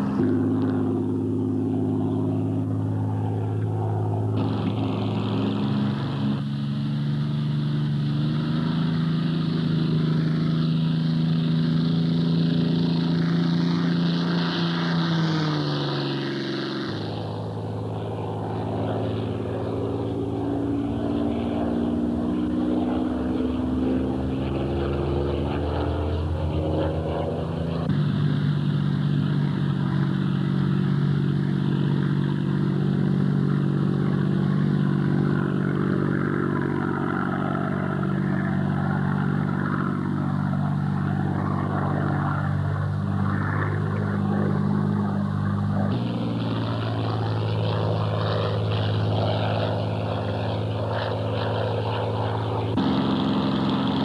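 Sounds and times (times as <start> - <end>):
aircraft engine droning: 0.0 - 54.0
rising engine note: 0.0 - 54.0.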